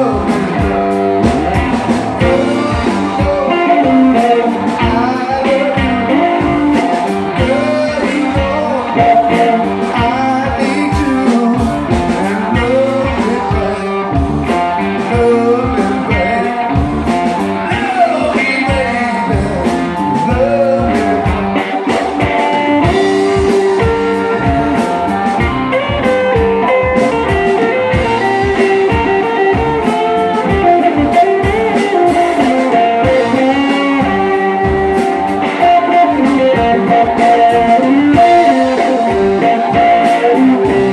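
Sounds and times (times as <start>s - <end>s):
bass guitar: 0.0s - 40.9s
drum kit beat: 0.0s - 40.9s
electric guitars: 0.0s - 40.9s.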